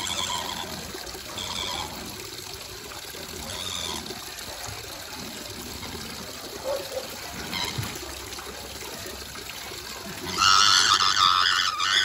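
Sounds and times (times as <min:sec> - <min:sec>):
tap water pouring into basin: 0:00.0 - 0:12.0.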